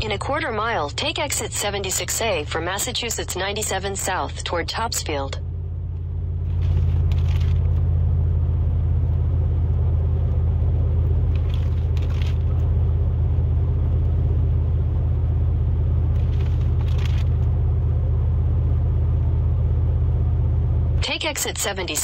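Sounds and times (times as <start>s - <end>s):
truck engine and tyres droning: 0.0s - 22.0s.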